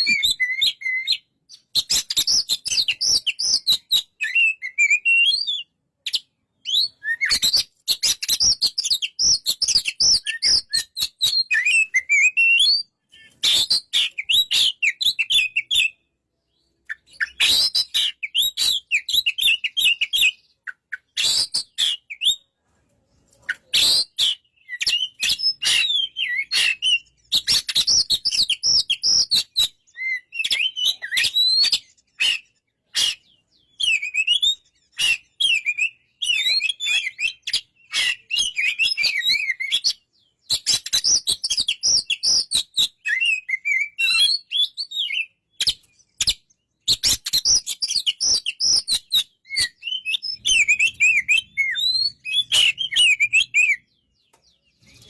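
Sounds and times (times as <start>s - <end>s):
bird singing warbled phrases: 0.0s - 55.0s.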